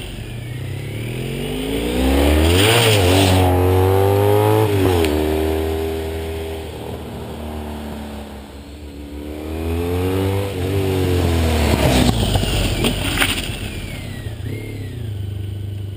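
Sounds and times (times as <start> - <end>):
motorcycle engine passing by: 0.0 - 15.7.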